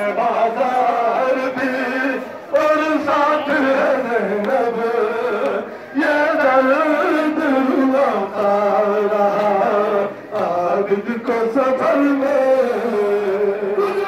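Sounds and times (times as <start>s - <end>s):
man chanting a lament over loudspeakers: 0.0s - 14.0s.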